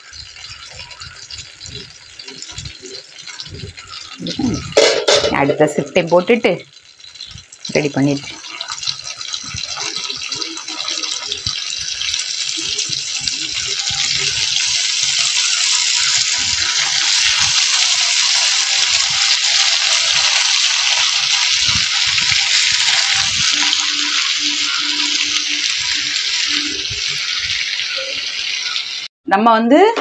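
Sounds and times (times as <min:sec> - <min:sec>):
food deep-frying in hot oil: 0:00.0 - 0:29.1.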